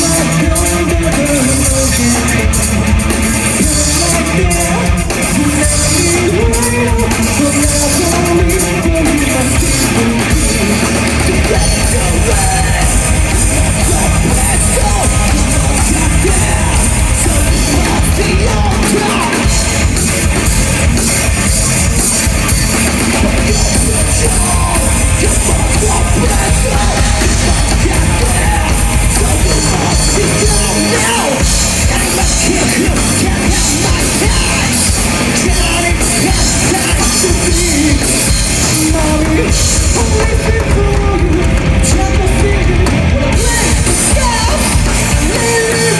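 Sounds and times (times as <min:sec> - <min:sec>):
bass guitar: 0:00.0 - 0:45.9
drum kit: 0:00.0 - 0:45.9
electric guitars: 0:00.0 - 0:45.9
person singing: 0:03.4 - 0:20.0, 0:23.1 - 0:45.9.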